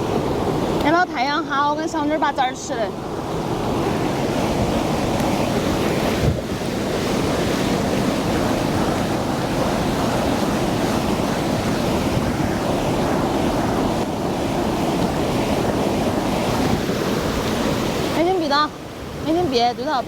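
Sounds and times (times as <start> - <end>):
stream water flowing: 0.0 - 20.0
wind buffeting microphone: 0.0 - 20.0.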